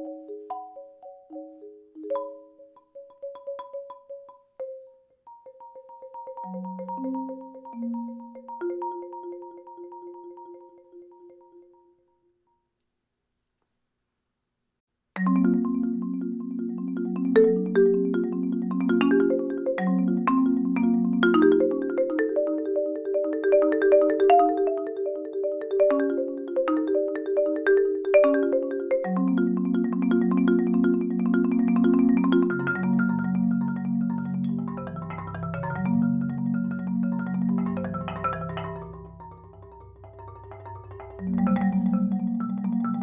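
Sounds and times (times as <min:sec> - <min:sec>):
marimba playing: 0:00.0 - 0:12.2, 0:15.2 - 0:43.0.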